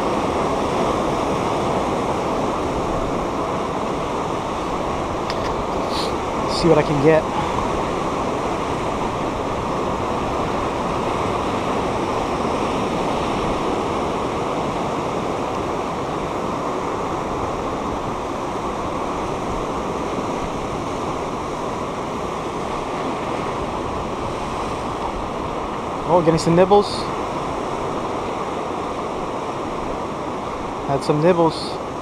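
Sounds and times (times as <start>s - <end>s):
ocean surf washing over rocks: 0.0s - 32.0s.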